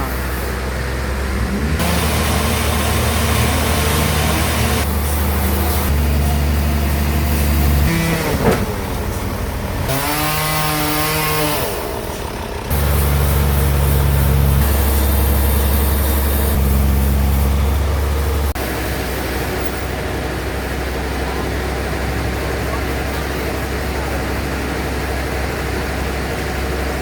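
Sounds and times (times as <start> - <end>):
band saw whining through log: 0.0 - 27.0
engine low hum: 0.0 - 27.0.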